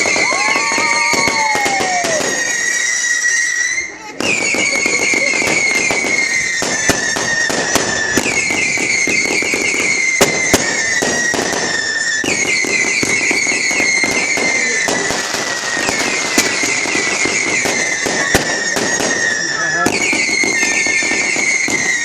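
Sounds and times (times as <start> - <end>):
fireworks crackling and banging: 0.0 - 22.0
whistling fireworks: 0.0 - 22.0.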